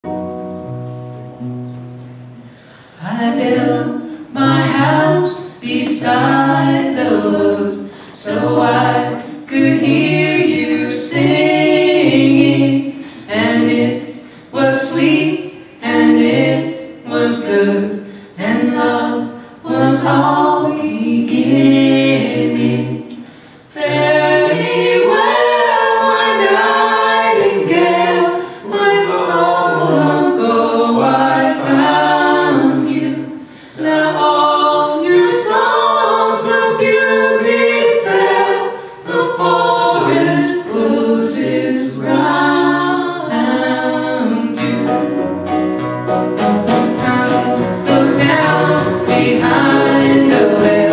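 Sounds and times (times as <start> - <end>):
vocal group singing a cappella: 2.4 - 50.9.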